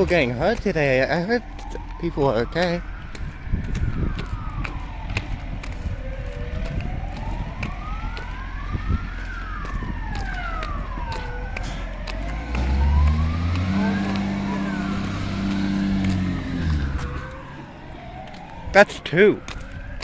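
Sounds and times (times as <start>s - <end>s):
vehicle engine accelerating: 0.0s - 18.5s
emergency siren wailing: 0.0s - 20.0s.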